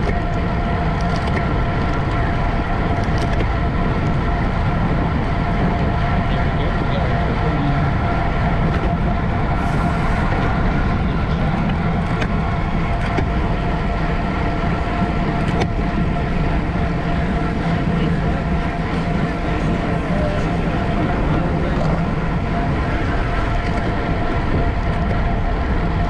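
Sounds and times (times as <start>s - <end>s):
faint steady whine: 0.0s - 26.0s
road noise with low rumble: 0.0s - 26.0s
rushing wind: 0.0s - 26.0s.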